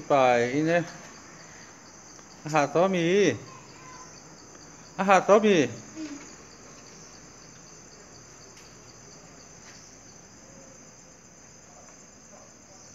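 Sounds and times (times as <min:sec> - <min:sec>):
insects chirring: 0:00.0 - 0:12.9.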